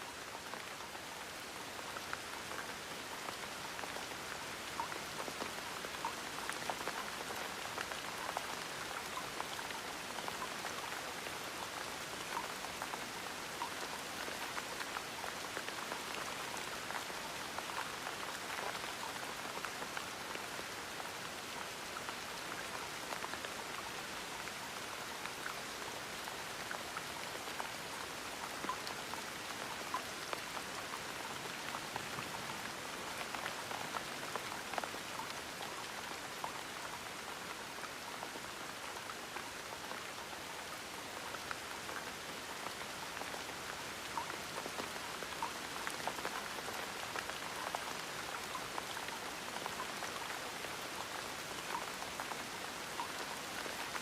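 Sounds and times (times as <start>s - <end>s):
gentle rain: 0.0s - 54.0s.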